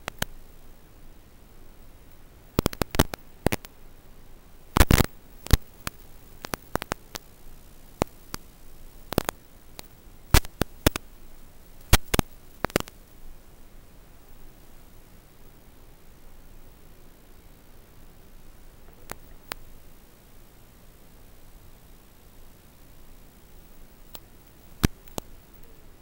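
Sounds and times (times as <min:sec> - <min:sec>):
radio crackles and pops: 0:00.0 - 0:26.0
static hiss: 0:00.0 - 0:26.0.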